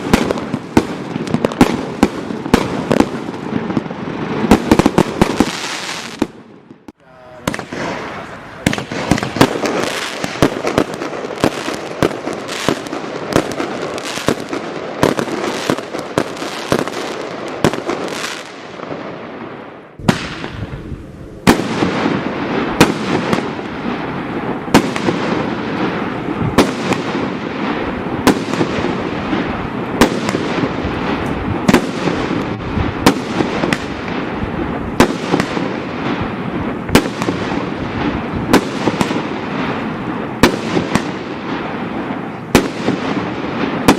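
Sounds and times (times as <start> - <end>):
firework bangs: 0.0 - 43.9
firework crackling: 0.0 - 43.9.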